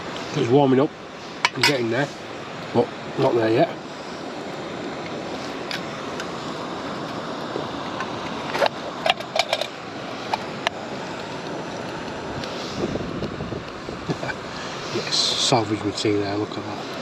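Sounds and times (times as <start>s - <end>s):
gas burner hissing: 0.0s - 17.0s.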